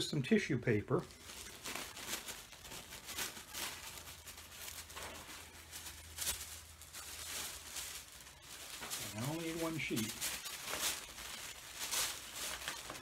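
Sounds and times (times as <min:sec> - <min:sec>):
tissue paper rustling: 0:00.6 - 0:13.0.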